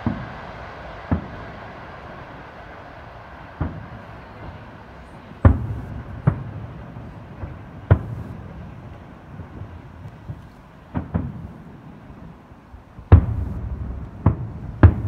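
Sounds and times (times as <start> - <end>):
background rumble: 0.0 - 15.0
fireworks booming: 0.0 - 15.0.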